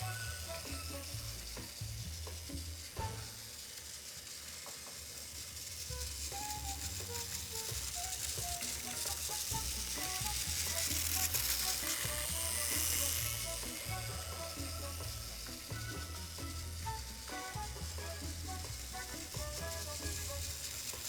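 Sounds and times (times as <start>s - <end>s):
hiss: 0.0s - 21.0s.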